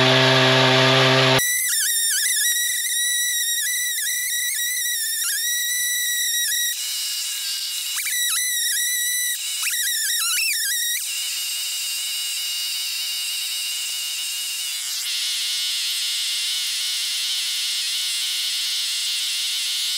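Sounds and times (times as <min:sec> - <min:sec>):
chainsaw cutting at high revs: 0:00.0 - 0:19.9.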